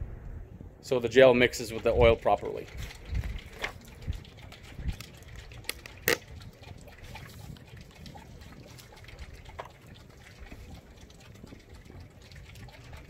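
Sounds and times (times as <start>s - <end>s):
liquid sloshing in plastic bottle: 1.5s - 13.0s.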